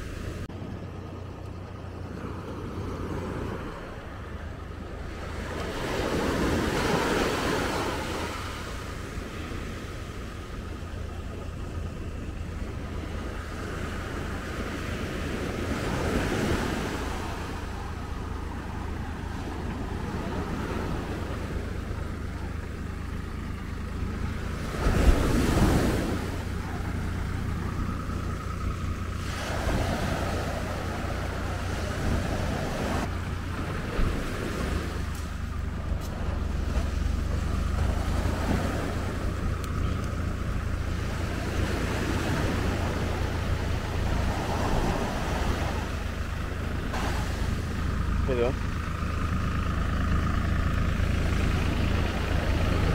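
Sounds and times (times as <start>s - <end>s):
surf washing onto beach: 5.0s - 52.9s.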